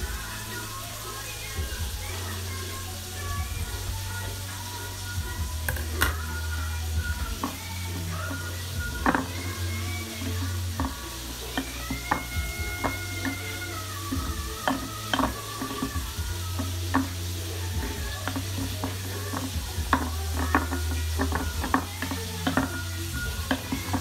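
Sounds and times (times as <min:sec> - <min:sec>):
spoon stirring wet mixture: 0:00.0 - 0:24.0.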